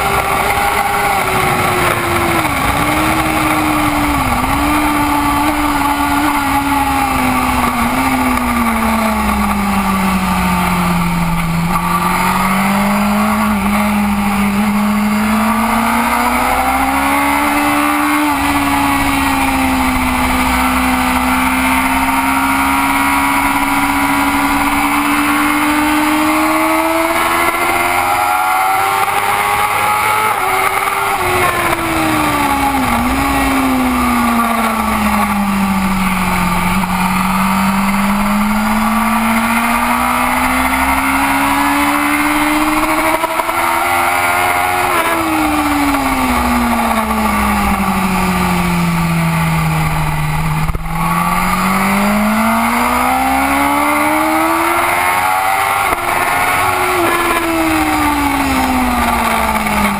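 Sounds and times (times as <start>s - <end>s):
race motorcycle engine revving: 0.0s - 59.9s.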